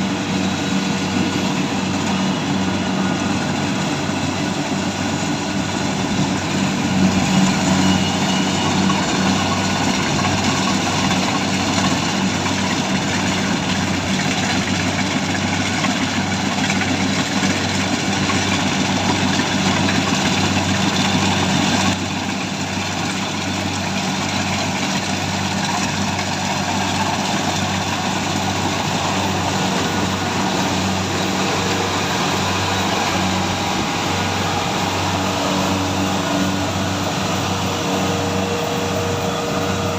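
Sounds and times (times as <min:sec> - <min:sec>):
harvesting machine engine running: 0:00.0 - 0:39.9.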